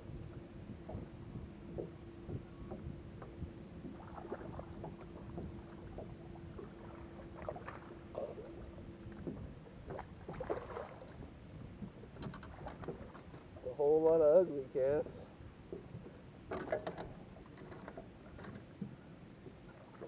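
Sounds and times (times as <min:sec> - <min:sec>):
water around boat: 0:00.0 - 0:20.0.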